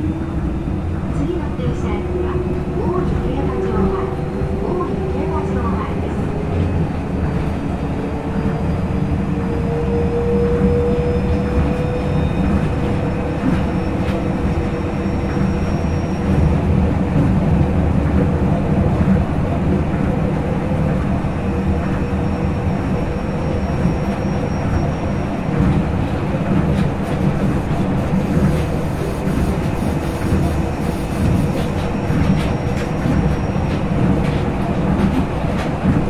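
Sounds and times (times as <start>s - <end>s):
train running gear rumble: 0.0s - 36.0s.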